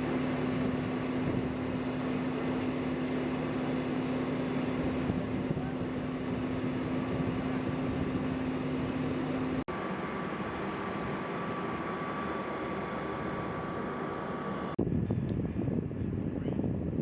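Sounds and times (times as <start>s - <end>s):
machinery humming: 0.0s - 14.8s.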